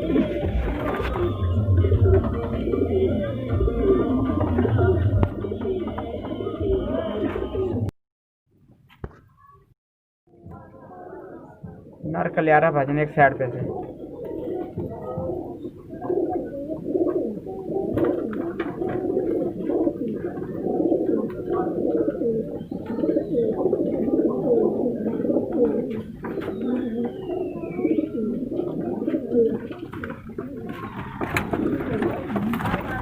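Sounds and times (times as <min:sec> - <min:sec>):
pigeons cooing: 0:00.0 - 0:07.9, 0:10.6 - 0:12.1, 0:13.5 - 0:33.0.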